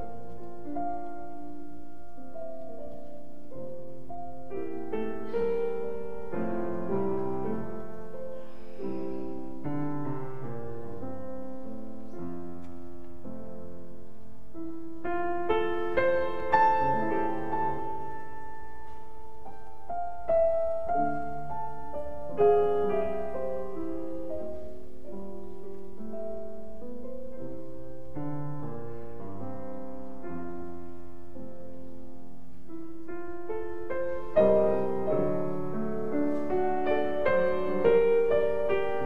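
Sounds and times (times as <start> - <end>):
slow piano melody: 0.0 - 39.0.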